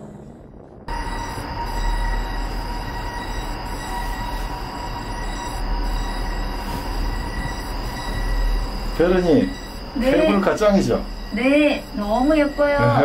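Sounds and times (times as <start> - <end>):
cable car rumble: 0.0 - 13.0
high whining tones: 0.0 - 13.0.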